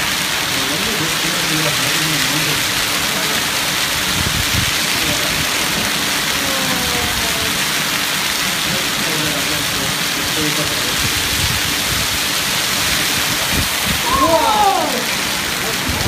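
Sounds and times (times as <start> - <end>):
hail and heavy rain on pavement: 0.0 - 16.0
gusting wind: 2.5 - 9.1, 9.7 - 16.0.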